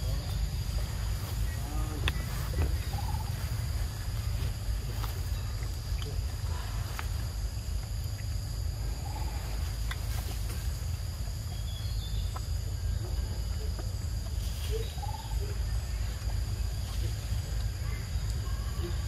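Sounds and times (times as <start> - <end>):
high insect drone: 0.0 - 19.0
low rumble: 0.0 - 19.0.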